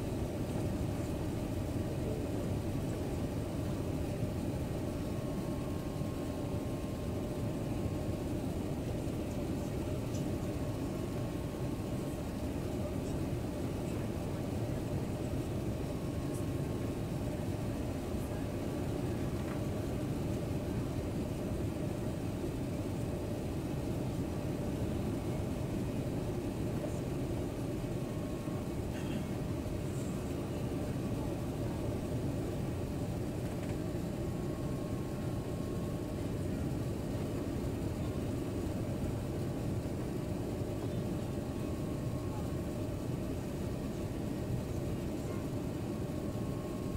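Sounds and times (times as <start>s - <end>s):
airliner engines and rushing air: 0.0s - 46.9s
faint steady hum: 0.0s - 46.9s.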